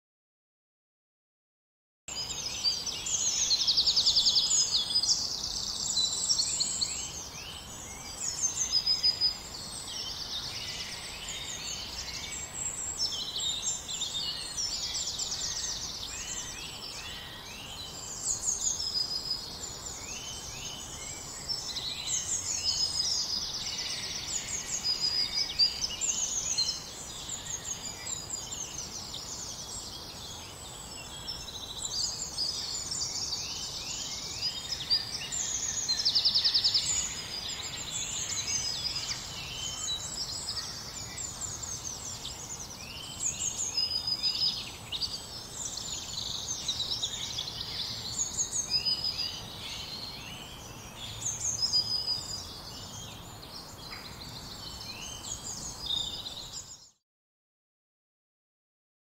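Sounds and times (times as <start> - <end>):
songbirds singing: 2.1 - 57.0.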